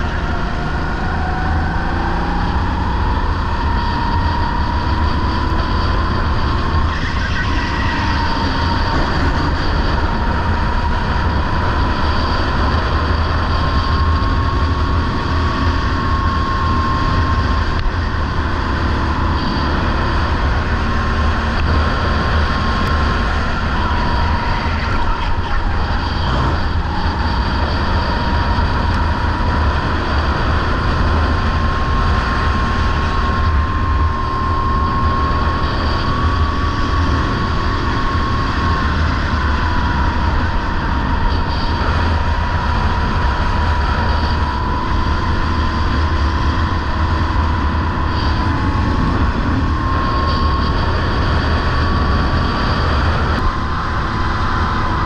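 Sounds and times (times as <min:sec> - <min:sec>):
go-kart engine whine: 0:00.0 - 0:55.0
wind rumble on microphone: 0:00.0 - 0:55.0.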